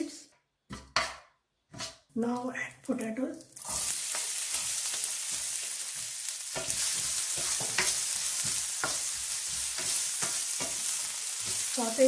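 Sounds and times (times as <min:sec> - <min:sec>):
spoon scraping pan: 0:00.7 - 0:02.5, 0:03.6 - 0:12.0
potatoes sizzling in oil: 0:01.8 - 0:12.0.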